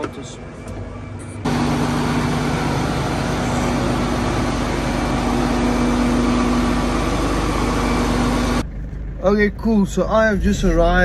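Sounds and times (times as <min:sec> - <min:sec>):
tractor diesel engine droning: 0:00.0 - 0:11.0
low hum: 0:00.5 - 0:09.7.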